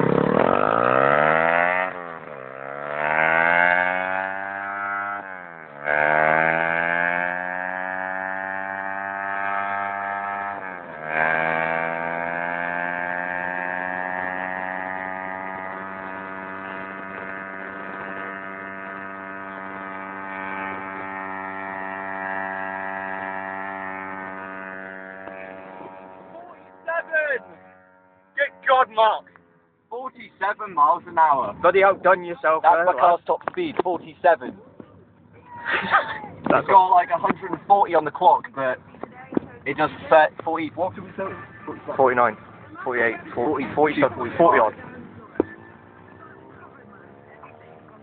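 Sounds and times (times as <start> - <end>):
pit bike engine accelerating: 0.0 - 48.0.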